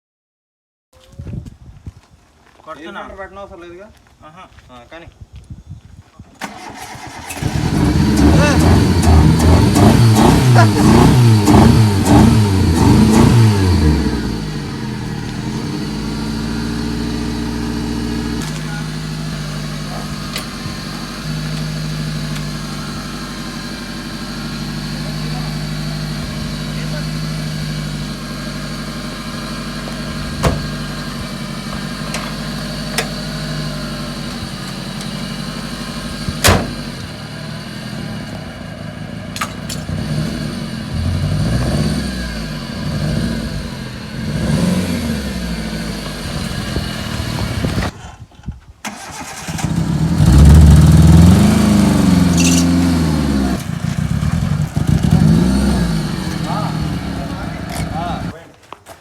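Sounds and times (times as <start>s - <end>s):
car engine idling and revving: 6.4s - 48.3s, 48.9s - 58.4s.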